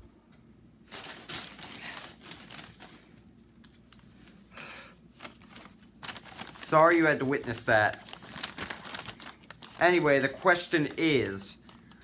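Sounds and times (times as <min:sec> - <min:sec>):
puppets rustling and crinkling: 0:00.8 - 0:12.0.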